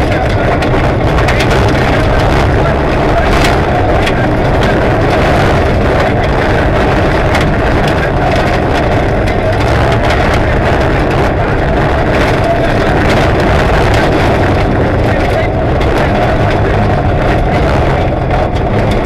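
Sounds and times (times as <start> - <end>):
rally car engine at high revs: 0.0 - 19.0
road noise: 0.0 - 19.0.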